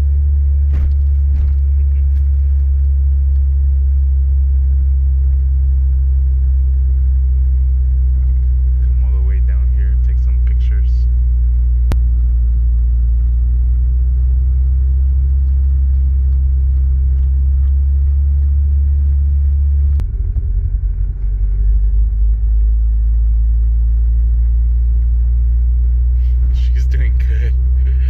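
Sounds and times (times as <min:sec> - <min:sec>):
car engine drone in cabin: 0:00.0 - 0:28.0.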